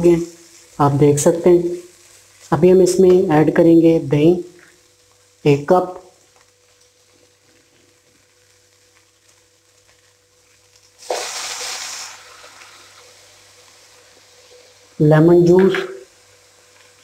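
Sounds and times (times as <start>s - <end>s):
yogurt sizzling in hot pot: 0.0s - 17.0s.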